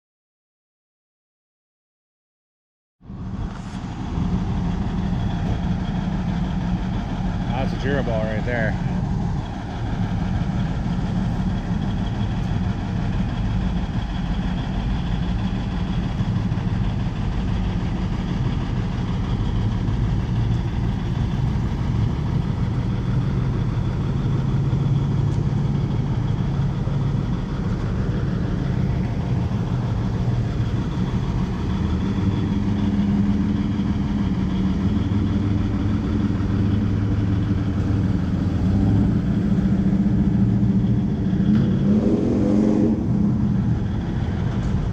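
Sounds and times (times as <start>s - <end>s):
car and truck engines idling: 3.0s - 44.9s.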